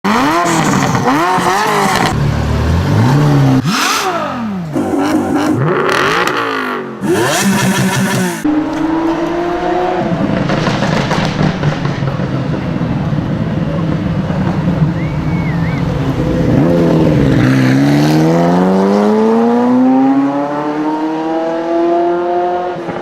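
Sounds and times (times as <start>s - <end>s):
sports car engine revving: 0.1s - 23.0s.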